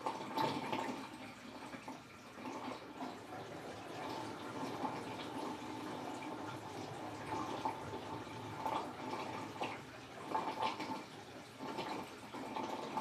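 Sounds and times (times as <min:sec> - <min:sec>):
washing machine draining water: 0:00.0 - 0:13.0.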